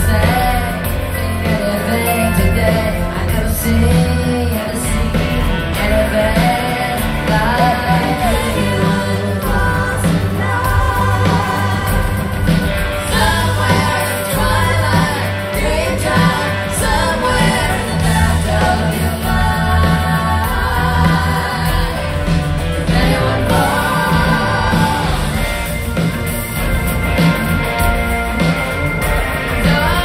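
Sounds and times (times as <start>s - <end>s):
woman singing: 0.0s - 25.8s, 29.5s - 30.0s
bass line: 0.0s - 30.0s
live rock band playing: 0.0s - 30.0s.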